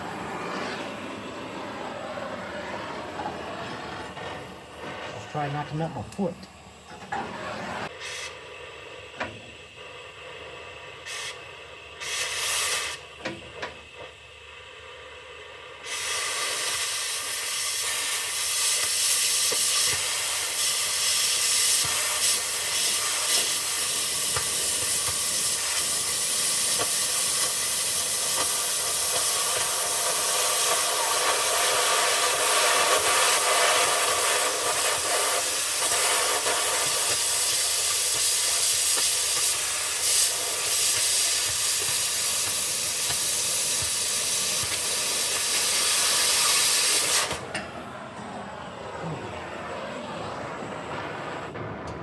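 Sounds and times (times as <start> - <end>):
cutting torch hissing: 0.0 - 48.0
gas spurts: 3.1 - 14.1, 15.8 - 47.6.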